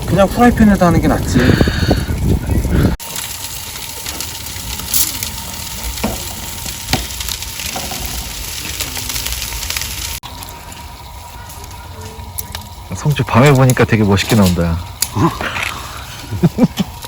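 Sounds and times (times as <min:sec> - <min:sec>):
fish sizzling in frying: 0:00.0 - 0:17.0.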